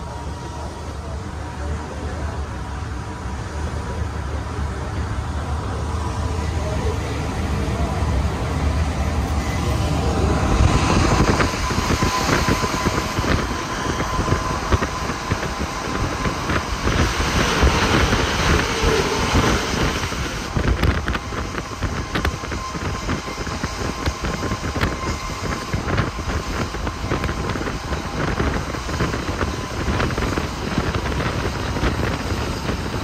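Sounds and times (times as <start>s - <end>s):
thin steady whine: 0.0s - 33.0s
train running noise: 0.0s - 33.0s.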